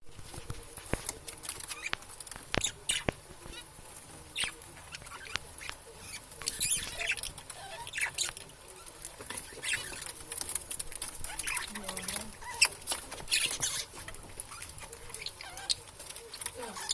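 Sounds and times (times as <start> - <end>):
budgerigars chirping and chattering: 1.4 - 16.9.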